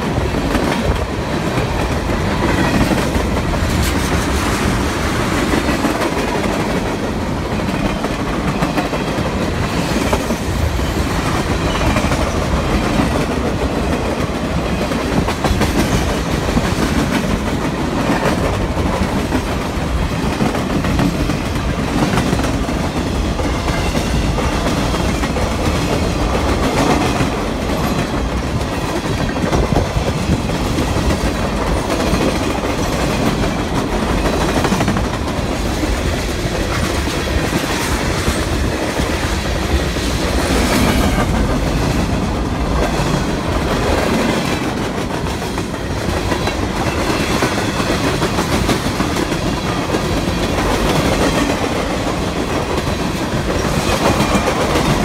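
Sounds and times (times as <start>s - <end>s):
rail clicks: 0.0s - 55.0s
steel wheels rumbling on rails: 0.0s - 55.0s.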